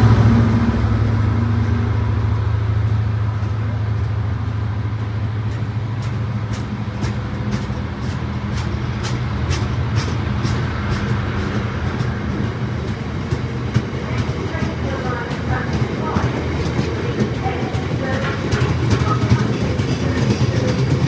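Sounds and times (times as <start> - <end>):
low train engine drone: 0.0 - 21.0
wheels clicking over rail joints: 2.8 - 21.0.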